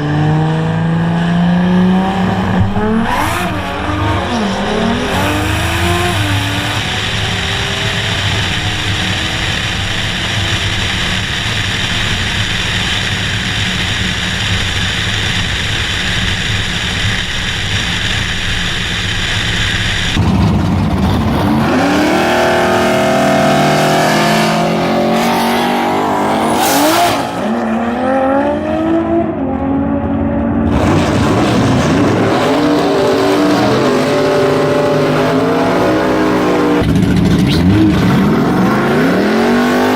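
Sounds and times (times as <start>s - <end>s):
drag car engine roaring: 0.0s - 39.9s
engine revving up and down: 0.0s - 39.9s
tires spinning: 2.0s - 29.6s, 30.5s - 39.9s.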